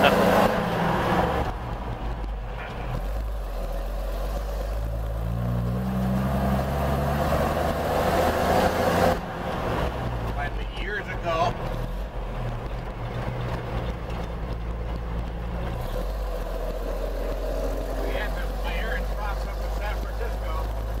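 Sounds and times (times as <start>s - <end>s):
fire engine engine drone: 0.0s - 21.0s.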